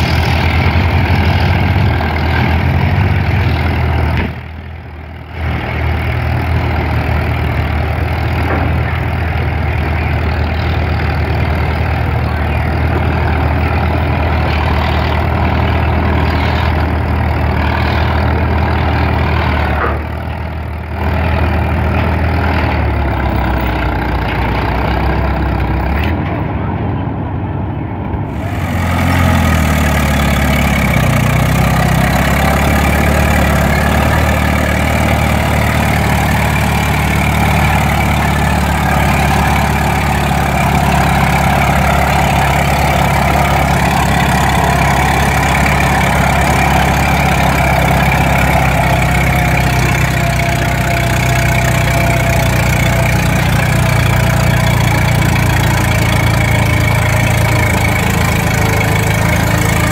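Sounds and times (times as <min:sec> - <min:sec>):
tractor engine labouring: 0:00.0 - 0:59.9.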